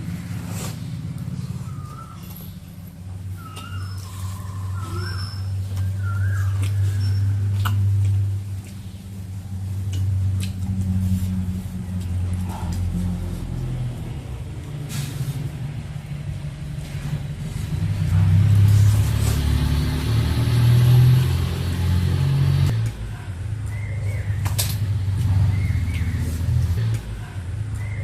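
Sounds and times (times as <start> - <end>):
low engine-like rumble: 0.0 - 28.0.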